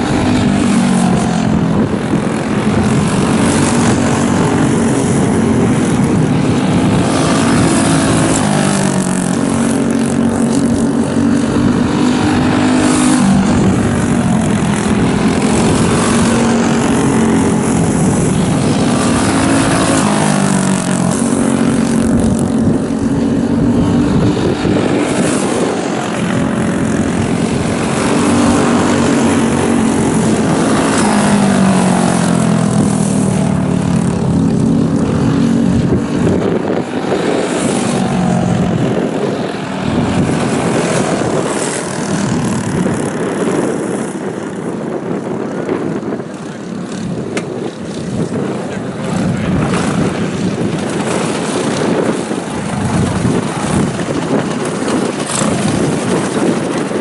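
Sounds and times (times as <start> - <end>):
go-kart engine at full throttle: 0.0 - 57.0.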